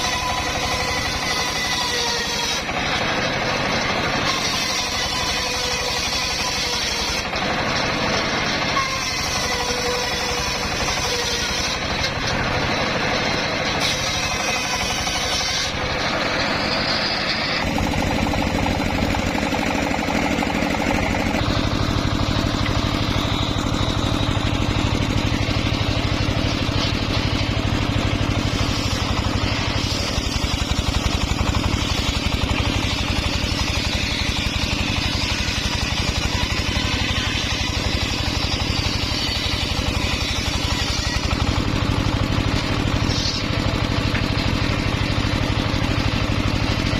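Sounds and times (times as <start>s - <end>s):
engine-driven circular saw running: 0.0s - 46.9s.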